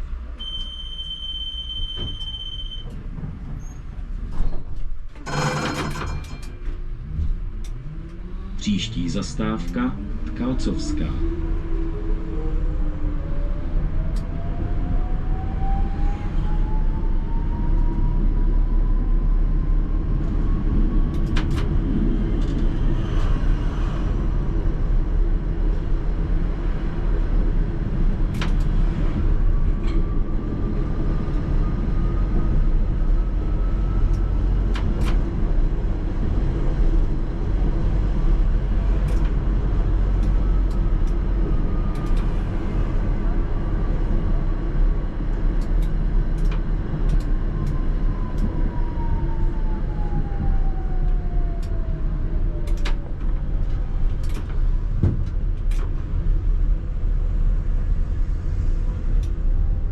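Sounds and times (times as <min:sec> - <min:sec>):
tram wheels rumbling on rails: 0:01.8 - 0:59.9.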